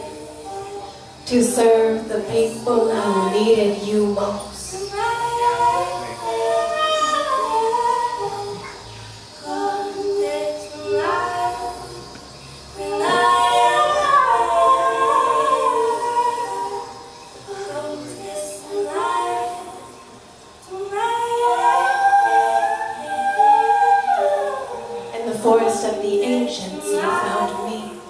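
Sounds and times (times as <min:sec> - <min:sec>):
woman singing: 0:00.0 - 0:12.1, 0:12.7 - 0:28.0.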